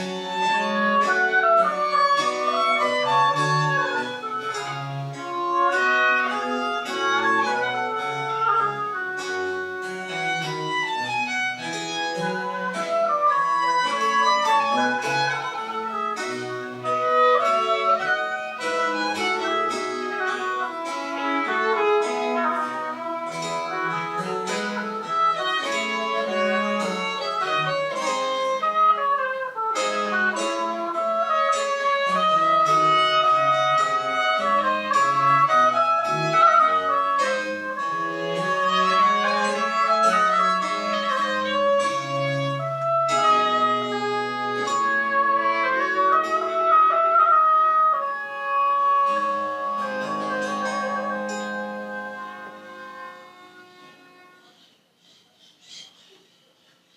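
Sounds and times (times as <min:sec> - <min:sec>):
baroque chamber ensemble playing: 0:00.0 - 0:55.2.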